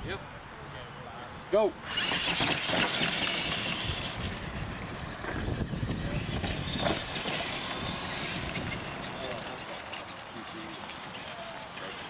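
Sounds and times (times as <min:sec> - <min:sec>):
toy truck motors: 0:01.8 - 0:12.0
tyres running over dirt: 0:01.8 - 0:12.0.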